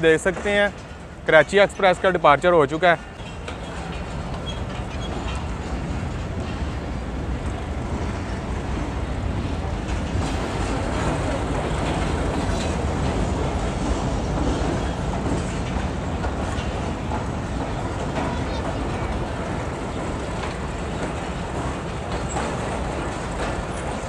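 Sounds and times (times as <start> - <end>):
train rumbling past: 0.0 - 24.0
wheels clicking over rail joints: 0.0 - 24.0.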